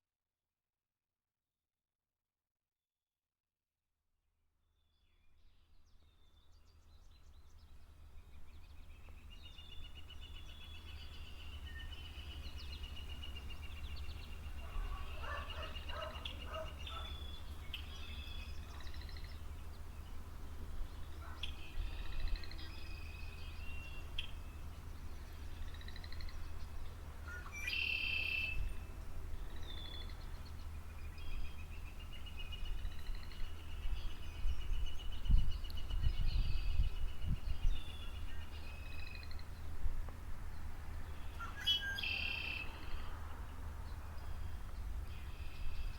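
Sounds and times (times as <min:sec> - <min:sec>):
songbirds singing: 0:05.4 - 0:45.9.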